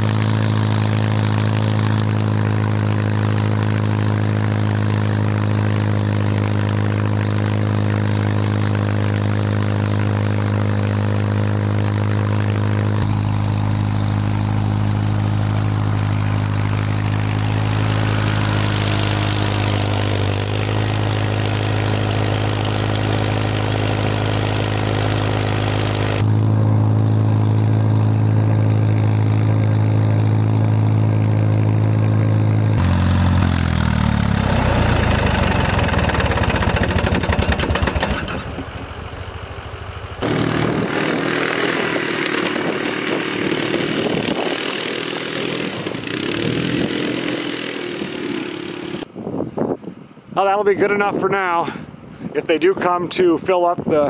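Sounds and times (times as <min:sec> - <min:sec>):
tractor engine running: 0:00.0 - 0:49.2.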